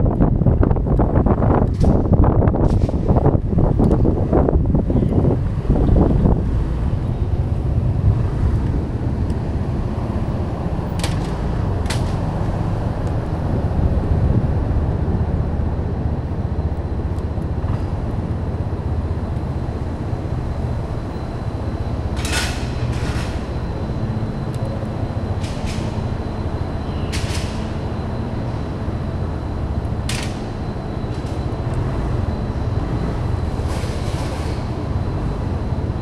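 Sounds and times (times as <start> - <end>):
city traffic rumble: 0.0 - 36.0.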